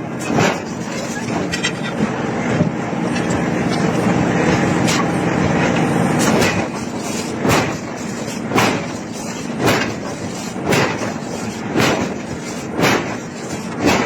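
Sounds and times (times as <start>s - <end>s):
forge machinery rumbling: 0.0s - 14.0s.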